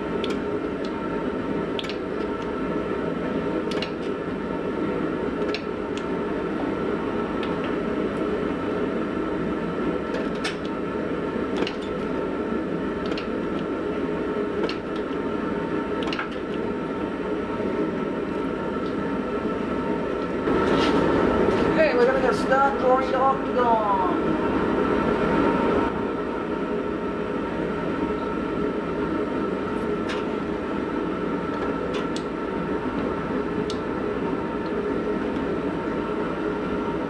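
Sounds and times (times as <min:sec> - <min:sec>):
gas burner roaring: 0:00.0 - 0:37.0.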